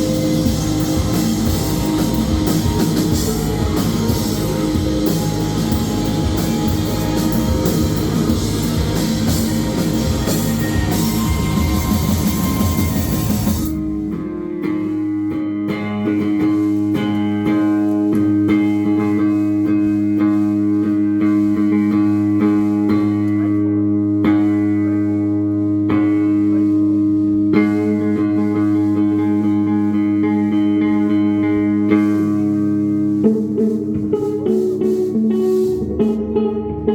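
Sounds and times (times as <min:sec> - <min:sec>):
rock band playing: 0:00.0 - 0:24.8, 0:25.7 - 0:36.9
plucked guitar: 0:00.0 - 0:36.9.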